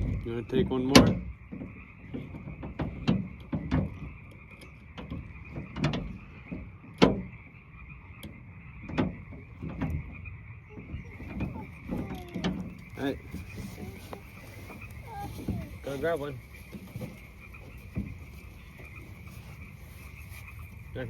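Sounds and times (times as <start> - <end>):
distant frog chorus: 0.0 - 21.0
loud frog croaks: 0.0 - 21.0.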